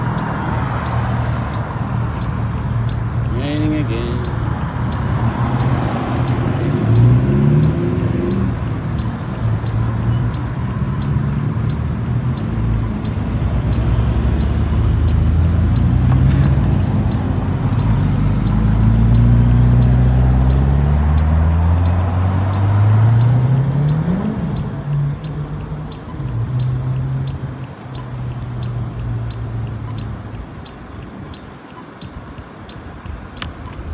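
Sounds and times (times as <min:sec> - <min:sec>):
vehicle engine accelerating: 0:00.0 - 0:33.9.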